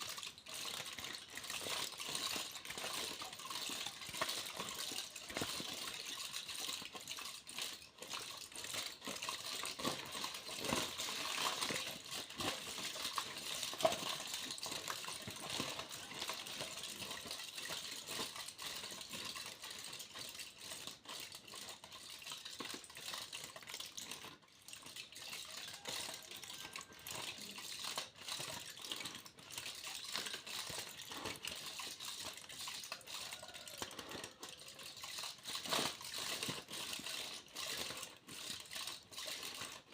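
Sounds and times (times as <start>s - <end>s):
aluminium foil crinkling: 0.0s - 39.9s.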